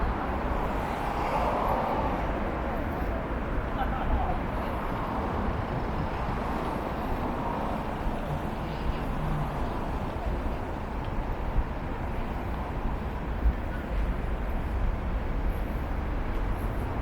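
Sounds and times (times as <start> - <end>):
passing traffic rumble: 0.0 - 17.0
faint murmur of people: 1.7 - 15.9.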